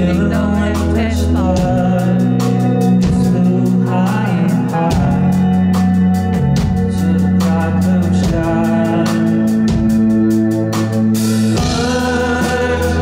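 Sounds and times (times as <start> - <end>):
male lead vocal singing: 0.0 - 10.0, 10.7 - 13.0
drums with cymbal strokes: 0.0 - 13.0
organ-like keyboard chords: 0.0 - 13.0.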